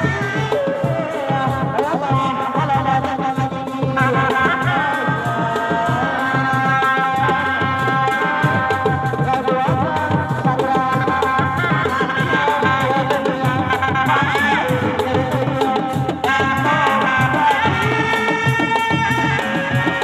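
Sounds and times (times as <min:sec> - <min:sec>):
drums beaten with sticks: 0:00.0 - 0:20.0.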